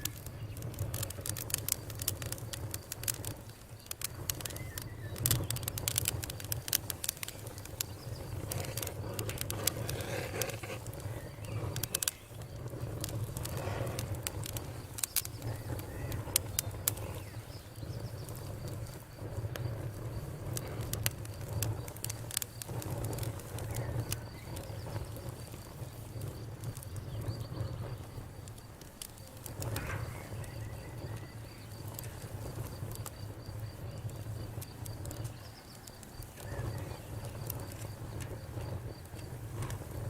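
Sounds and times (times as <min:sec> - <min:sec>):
campfire crackling and snapping: 0:00.0 - 0:40.0.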